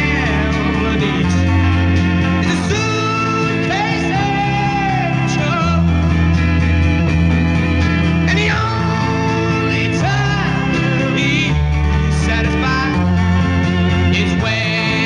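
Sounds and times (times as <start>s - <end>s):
man singing: 0.0s - 6.4s, 8.2s - 15.0s
bass guitar: 0.0s - 15.0s
electric guitar: 0.0s - 15.0s
organ chords: 0.0s - 15.0s.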